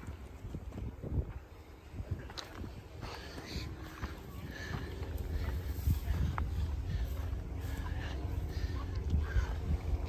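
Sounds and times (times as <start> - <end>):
footsteps on rocky dirt trail: 0.0 - 10.0
wind rumbling on microphone: 0.0 - 10.0.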